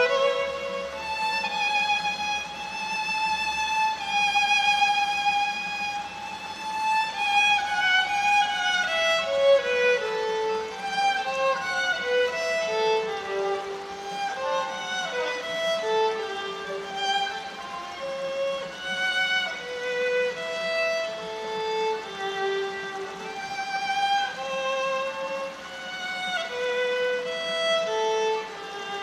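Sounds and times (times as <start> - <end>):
solo violin bowed: 0.0 - 29.0.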